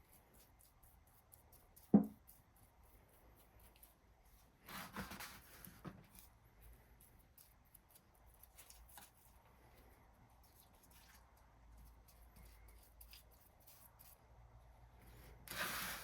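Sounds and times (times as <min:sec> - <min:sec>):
faint scraping and rustling: 0:00.0 - 0:16.0.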